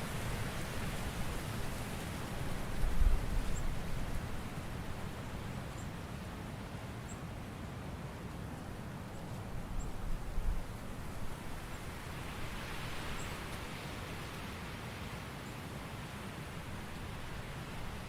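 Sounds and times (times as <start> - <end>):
wind rustling leaves: 0.0 - 18.0.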